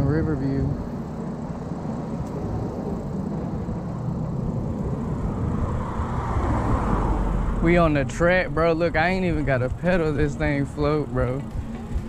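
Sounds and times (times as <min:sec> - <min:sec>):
bicycle tyres rolling on concrete: 0:00.0 - 0:12.0
wind on microphone: 0:00.0 - 0:12.0.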